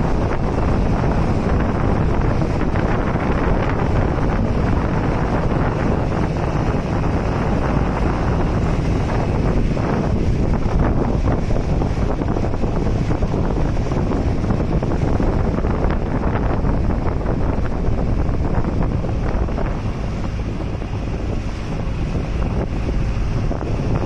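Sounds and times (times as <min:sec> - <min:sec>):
boat engine running: 0:00.0 - 0:24.0
water rushing past hull: 0:00.0 - 0:24.0
wind buffeting microphone: 0:00.0 - 0:24.0.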